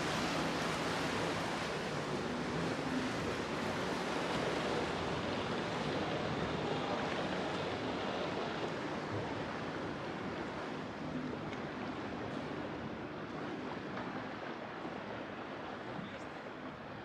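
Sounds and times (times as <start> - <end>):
water rushing along hull: 0.0 - 17.0.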